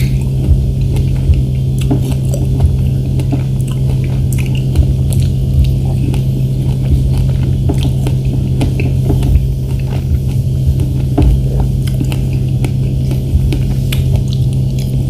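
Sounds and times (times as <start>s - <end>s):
chewing strawberries: 0.0s - 15.0s
steady low hum: 0.0s - 15.0s.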